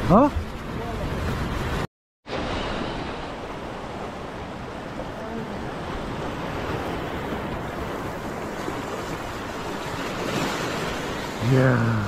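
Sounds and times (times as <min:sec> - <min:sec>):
wind rumbling on microphone: 0:00.0 - 0:11.5.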